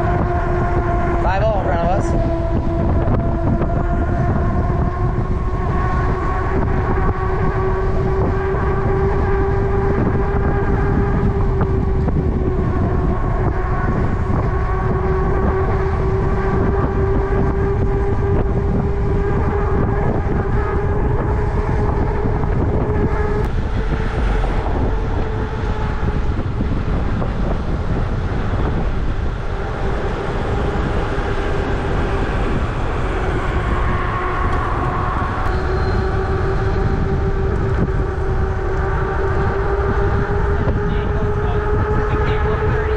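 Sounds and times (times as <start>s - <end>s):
electric bike motor whine: 0.0s - 42.9s
wind rumble on microphone: 0.0s - 42.9s.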